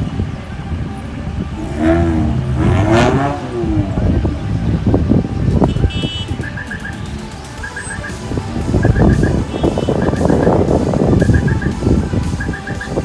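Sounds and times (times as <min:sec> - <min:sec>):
off-road vehicle engines running: 0:00.0 - 0:13.0.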